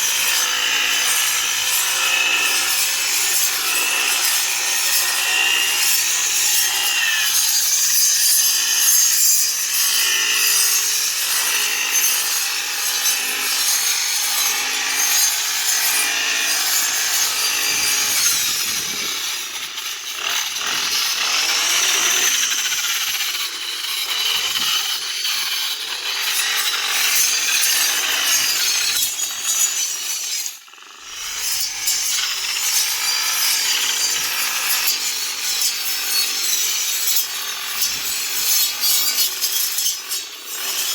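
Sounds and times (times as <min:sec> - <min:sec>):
grass cutting machine whirring: 0:00.0 - 0:40.9.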